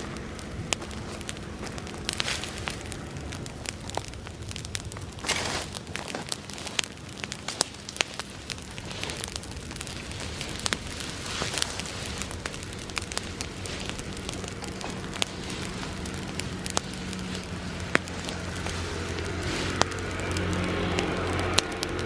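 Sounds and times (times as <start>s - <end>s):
bonfire crackling and popping: 0.0s - 22.0s
low steady hum: 0.0s - 22.0s.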